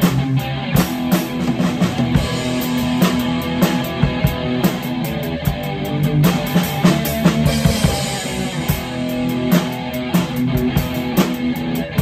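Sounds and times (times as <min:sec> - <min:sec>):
amplified electric guitar chords: 0:00.0 - 0:12.0
drum kit steady beat: 0:00.0 - 0:12.0.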